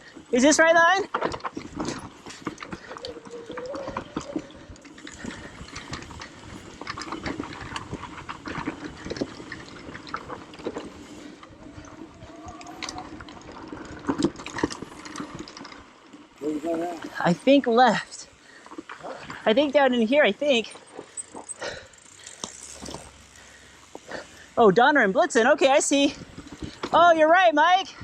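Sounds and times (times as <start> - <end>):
tyres crunching over dirt: 0.0 - 24.4
bike rattling over rough ground: 0.0 - 28.0.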